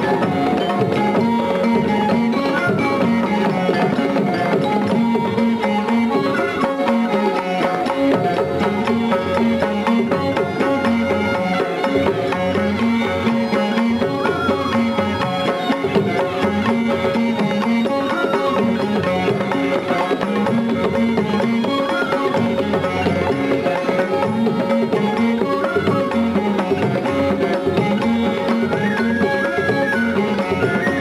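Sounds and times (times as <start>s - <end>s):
hand drums: 0.0s - 31.0s.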